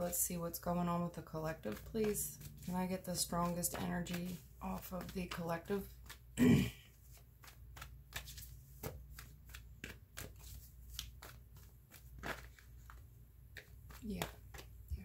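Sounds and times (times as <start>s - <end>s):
cards being shuffled: 0.1s - 15.0s.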